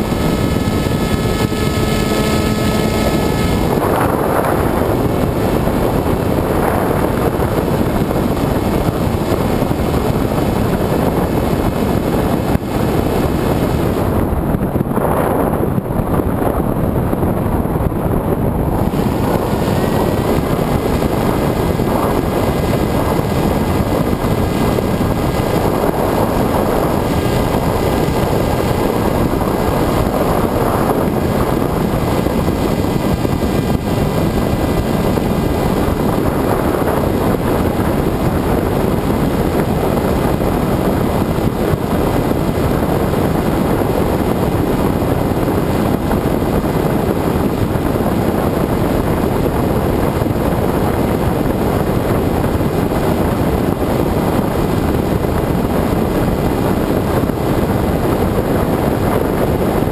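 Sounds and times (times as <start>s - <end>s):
electric motor and propeller whine: 0.0s - 59.9s
wind rushing over camera: 0.0s - 59.9s.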